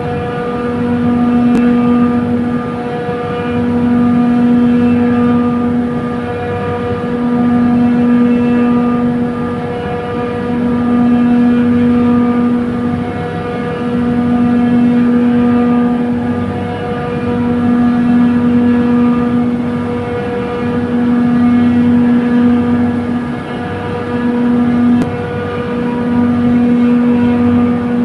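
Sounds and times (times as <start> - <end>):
compressor humming: 0.0 - 28.0.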